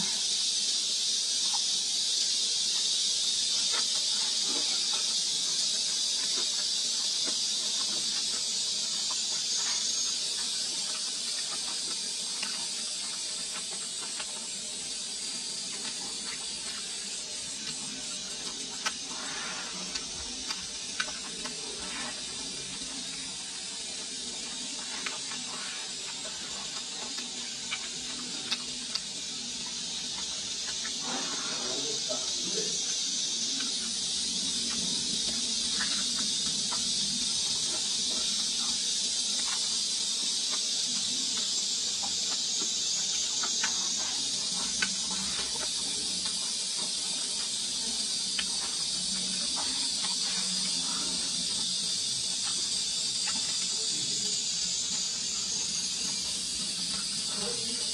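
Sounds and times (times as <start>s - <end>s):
steady high hiss: 0.0s - 57.9s
person chewing food: 0.1s - 57.9s.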